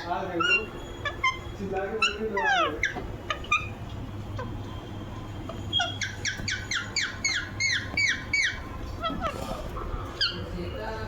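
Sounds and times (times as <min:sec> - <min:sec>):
parakeet screeching: 0:00.0 - 0:04.8, 0:05.4 - 0:10.7.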